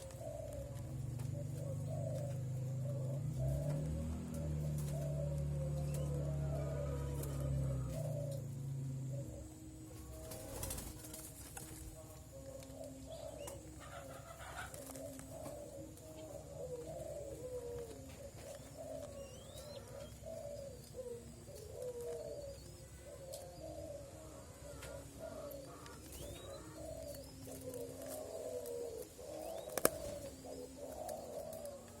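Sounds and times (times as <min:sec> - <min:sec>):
young doves cooing: 0:00.0 - 0:32.0.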